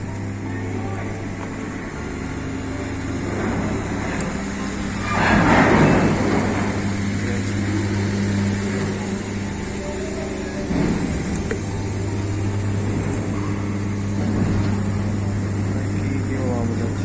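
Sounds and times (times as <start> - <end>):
low machinery hum: 0.0 - 17.0
noisy rush: 0.0 - 17.0.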